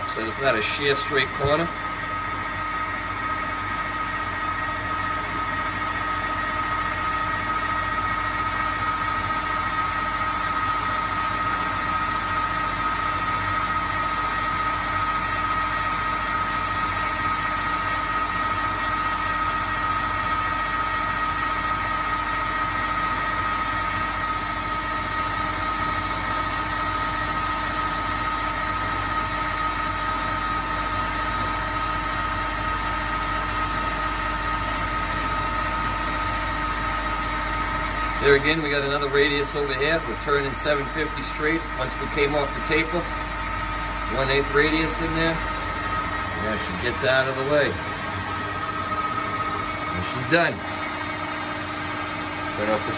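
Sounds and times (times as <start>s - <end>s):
lathe spindle whine: 0.0s - 52.9s.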